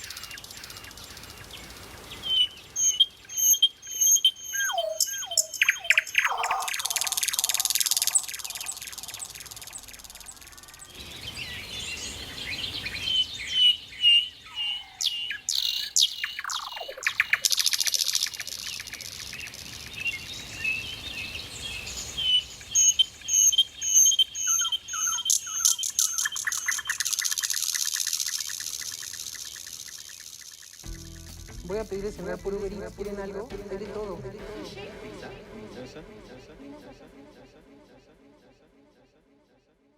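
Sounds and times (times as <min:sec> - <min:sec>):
nightingale singing: 0:00.0 - 0:34.1.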